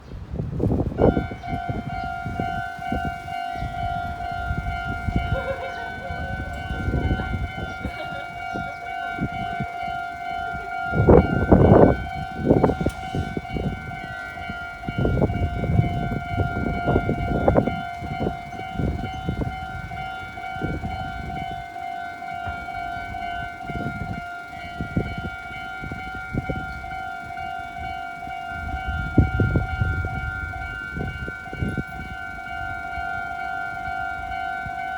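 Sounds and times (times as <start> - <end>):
crossing warning bell: 0.0 - 34.9
train rumbling past: 0.0 - 34.9.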